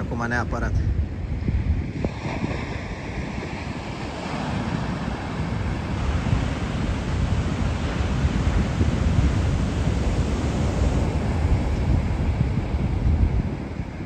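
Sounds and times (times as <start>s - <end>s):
ocean waves breaking on sand: 0.0s - 14.0s
wind buffeting microphone: 0.0s - 14.0s.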